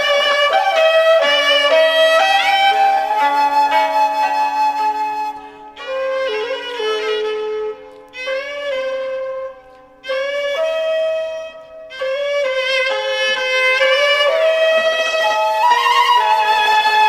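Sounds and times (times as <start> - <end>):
bamboo flute slow melody: 0.0 - 17.0.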